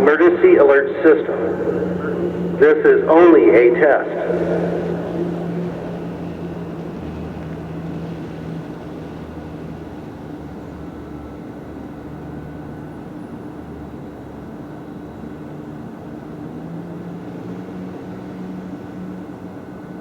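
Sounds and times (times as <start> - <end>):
city traffic rumble: 0.0 - 20.0
faint hum: 0.0 - 20.0.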